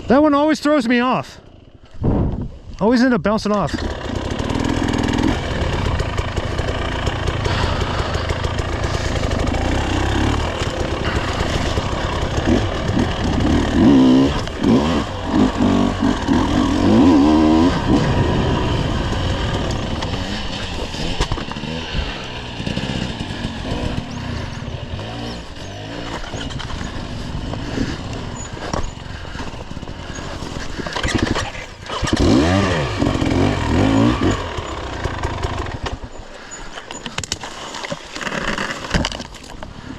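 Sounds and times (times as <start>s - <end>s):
dirt bike engine revving: 3.7s - 36.6s.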